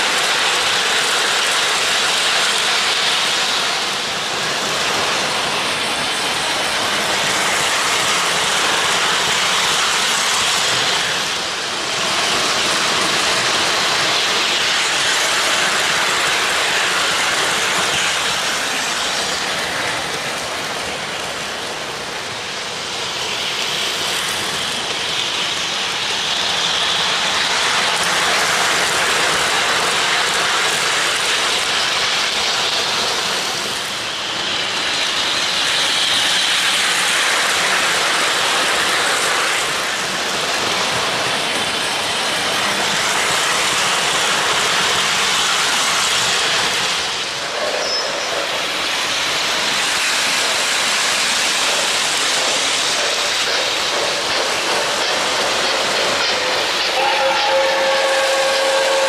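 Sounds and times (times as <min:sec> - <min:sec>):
train rolling along track: 0:00.0 - 0:59.0.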